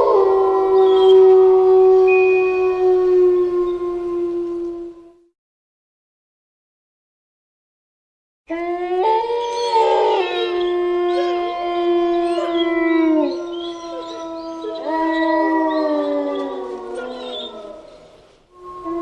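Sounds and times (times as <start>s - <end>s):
wolves howling in chorus: 0.0s - 5.1s, 8.5s - 19.0s.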